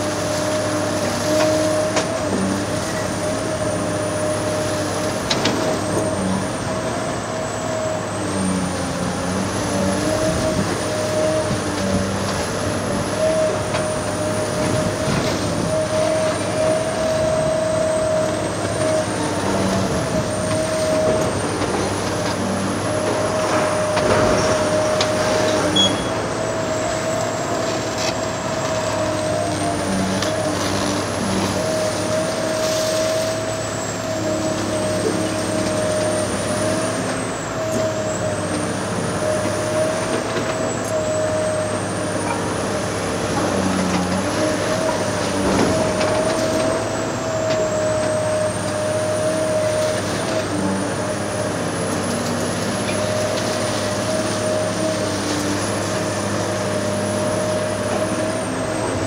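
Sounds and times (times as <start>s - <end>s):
excavator diesel engine and hydraulics: 0.0s - 59.0s.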